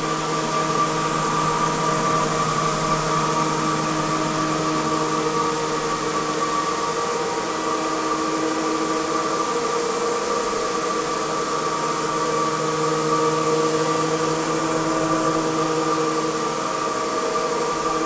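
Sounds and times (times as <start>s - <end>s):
floor sander motor hum: 0.0s - 18.0s.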